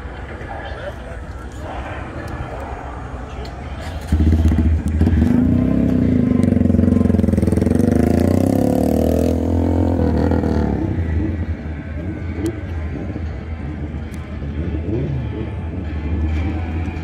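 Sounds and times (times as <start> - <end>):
car engine revving: 2.2 - 17.0.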